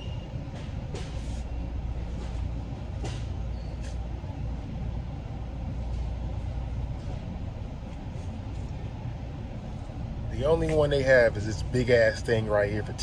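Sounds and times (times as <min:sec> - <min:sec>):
low store background rumble: 0:00.0 - 0:13.0.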